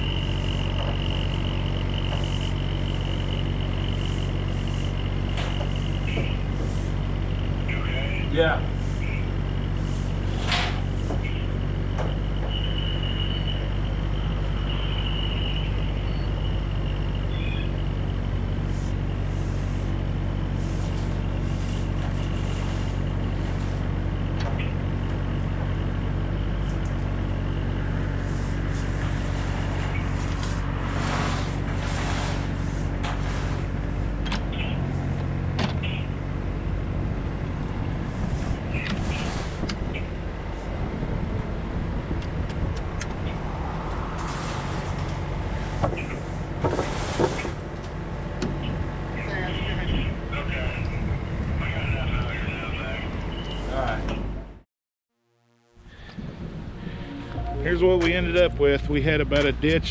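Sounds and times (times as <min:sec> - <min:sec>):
excavator diesel engine under load: 0:00.0 - 0:54.6, 0:55.9 - 0:59.9.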